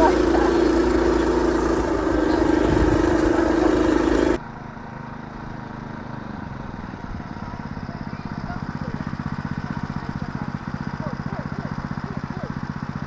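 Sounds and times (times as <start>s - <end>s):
small vehicle engine running: 0.0s - 13.0s.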